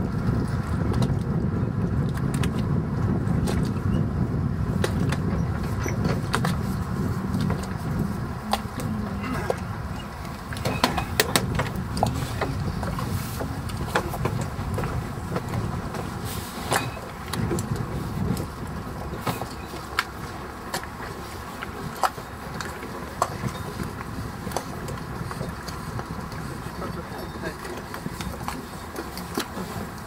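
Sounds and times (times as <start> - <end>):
steady low rumble: 0.0 - 30.0
footsteps and knocks on wooden dock: 4.7 - 30.0.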